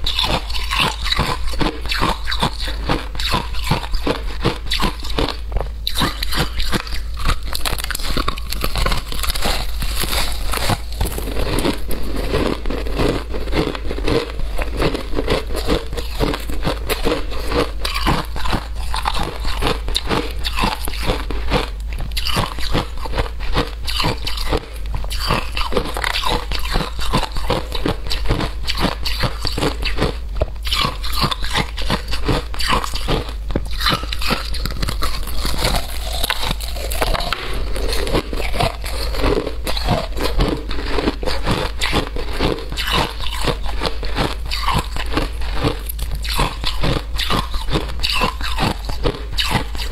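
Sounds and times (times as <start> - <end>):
person crunching ice: 0.0 - 49.9
steady low hum: 0.0 - 49.9.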